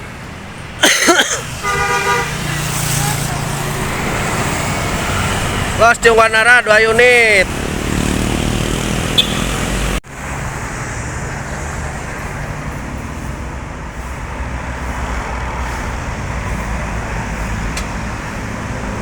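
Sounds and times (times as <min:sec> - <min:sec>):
passing traffic: 0:00.0 - 0:19.0.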